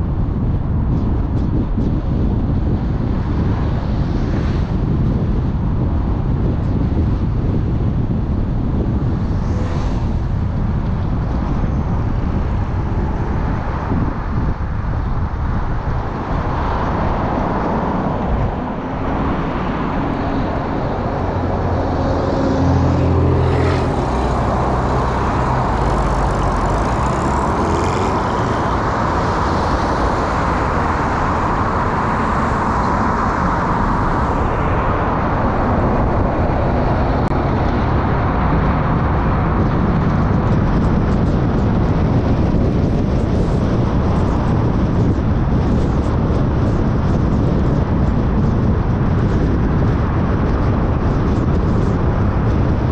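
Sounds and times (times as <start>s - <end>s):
car engine and tyre noise: 0.0s - 52.9s.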